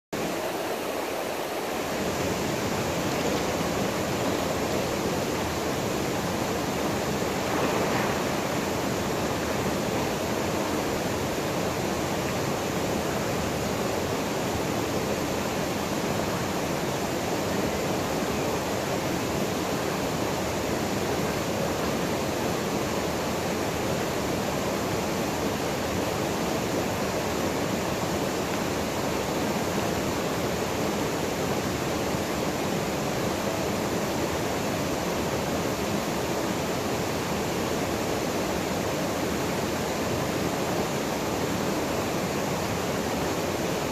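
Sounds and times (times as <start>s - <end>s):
small waterfall rushing: 0.2s - 43.9s.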